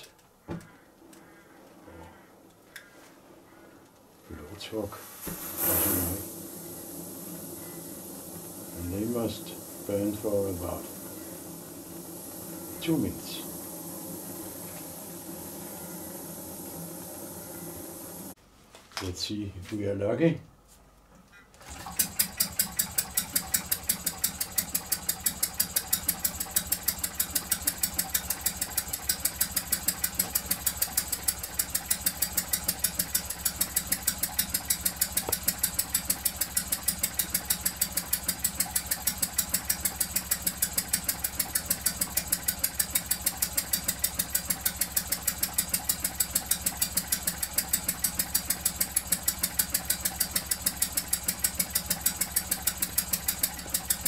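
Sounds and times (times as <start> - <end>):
model engine running: 4.8 - 18.4, 21.7 - 54.0.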